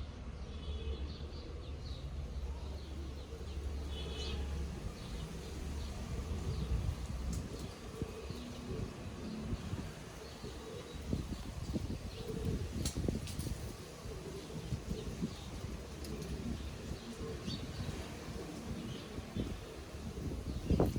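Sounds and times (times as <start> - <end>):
small birds chirping: 0.6 - 20.9.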